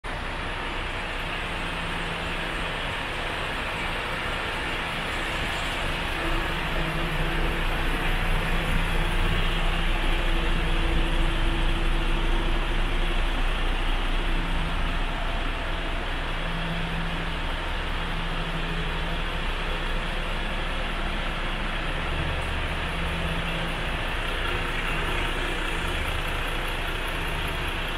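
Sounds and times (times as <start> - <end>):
truck diesel engine running: 0.0 - 27.9.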